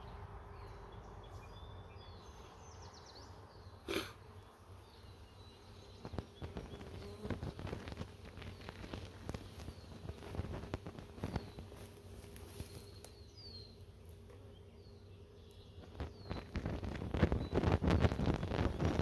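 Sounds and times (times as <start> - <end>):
honeybees buzzing: 2.2 - 19.0.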